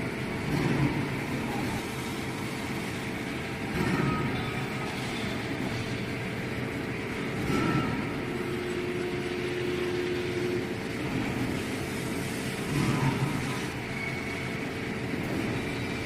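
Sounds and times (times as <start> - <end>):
metal lathe humming: 1.4 - 16.0.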